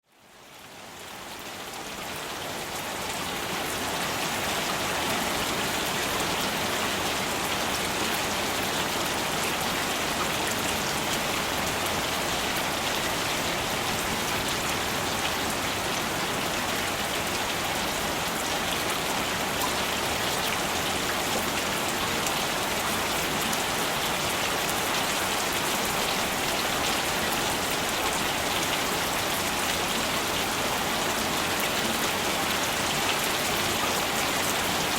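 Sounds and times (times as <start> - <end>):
rain pattering: 0.1 - 34.9.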